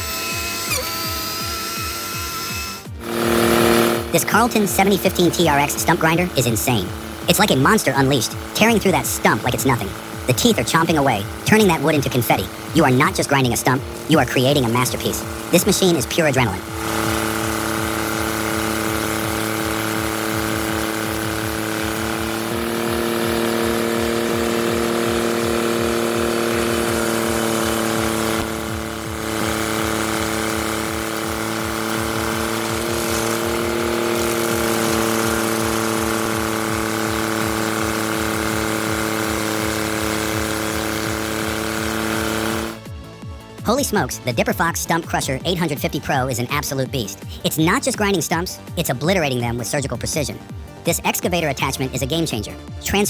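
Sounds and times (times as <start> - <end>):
stump grinder droning: 0.0 - 53.0.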